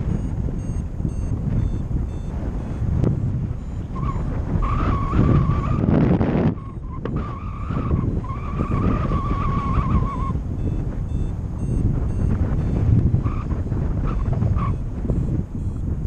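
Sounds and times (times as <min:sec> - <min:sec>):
variometer high beep tone: 0:00.0 - 0:15.9
wind on microphone: 0:00.0 - 0:16.0.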